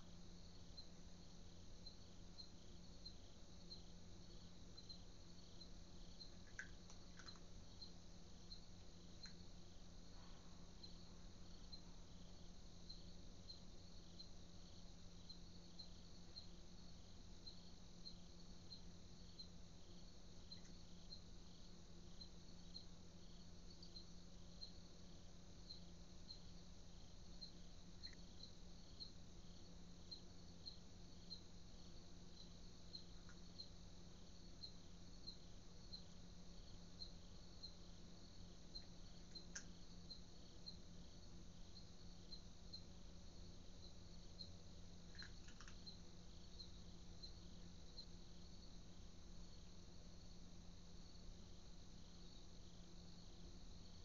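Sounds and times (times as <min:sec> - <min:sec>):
cricket chirping: 0:00.0 - 0:54.0
low steady hum: 0:00.0 - 0:54.0.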